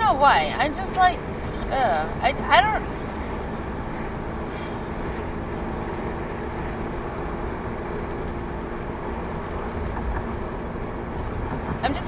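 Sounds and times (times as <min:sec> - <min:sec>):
tyres and engine rumble: 0:00.0 - 0:12.0.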